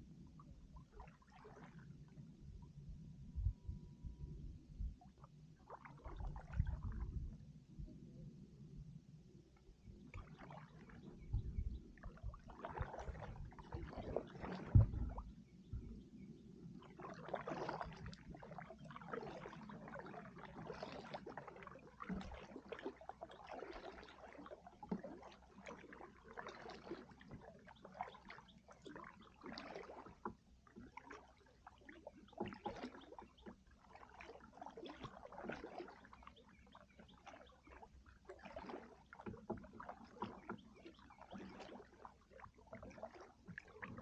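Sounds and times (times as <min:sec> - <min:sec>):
paddle swishing through water: 0:00.0 - 0:03.3, 0:04.2 - 0:08.1, 0:09.4 - 0:44.0.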